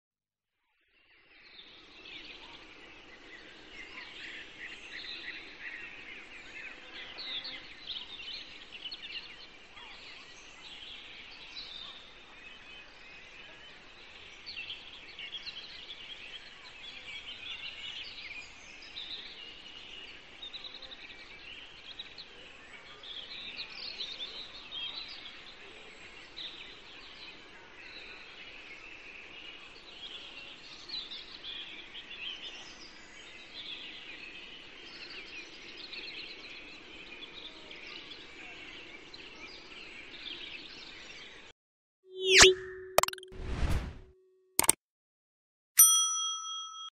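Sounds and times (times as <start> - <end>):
songbirds singing: 1.1 - 41.5.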